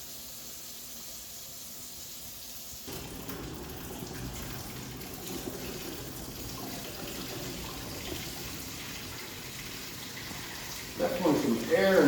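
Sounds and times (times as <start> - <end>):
faucet water running unevenly: 0.0 - 12.0.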